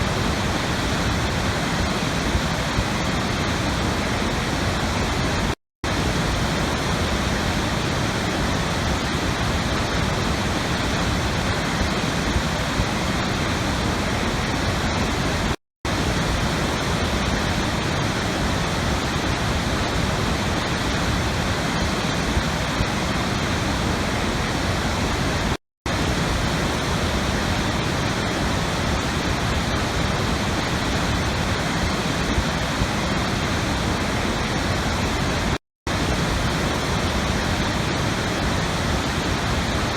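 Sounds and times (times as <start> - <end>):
rushing flowing water: 0.0 - 39.9.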